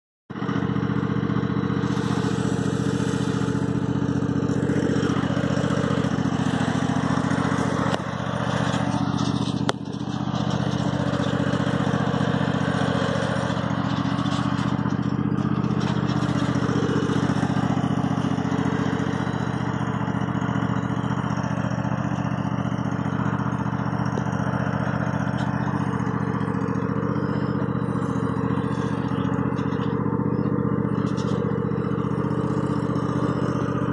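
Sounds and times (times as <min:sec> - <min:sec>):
mower engine running: 0:00.3 - 0:33.9.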